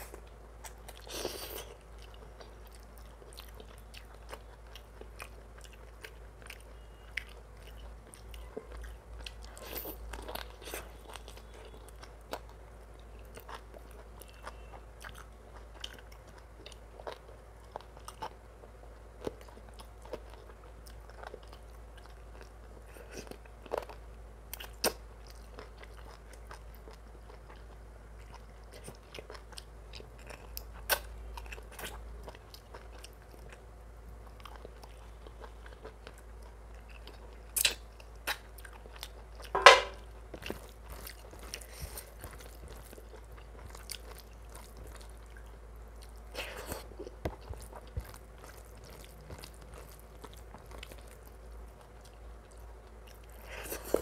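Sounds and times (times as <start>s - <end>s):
close chewing and biting: 0.0s - 54.0s.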